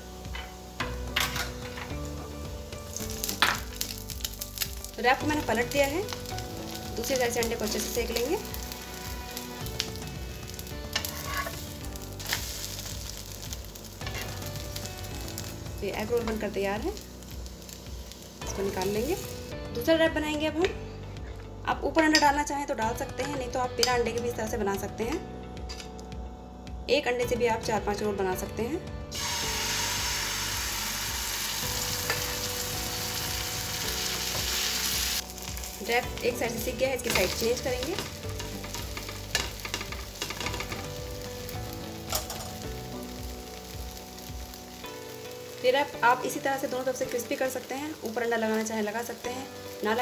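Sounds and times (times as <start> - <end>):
food sizzling in oil: 0.0 - 20.6, 29.1 - 50.0.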